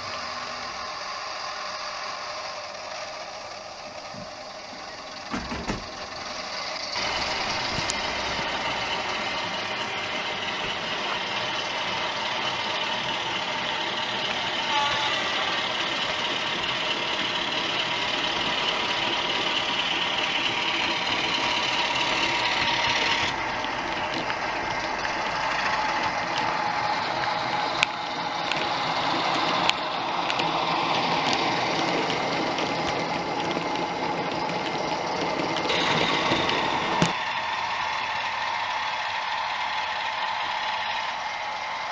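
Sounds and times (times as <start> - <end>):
model trains whirring and clattering: 0.0 - 41.9.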